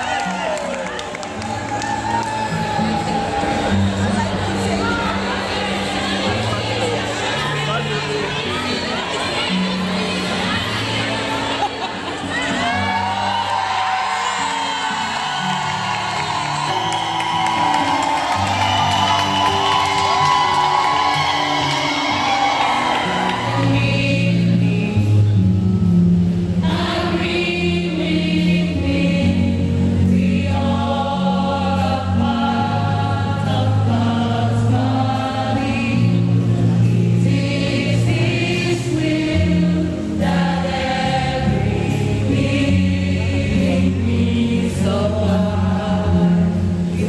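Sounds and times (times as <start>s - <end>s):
church choir singing: 2.2s - 25.6s, 26.5s - 47.0s.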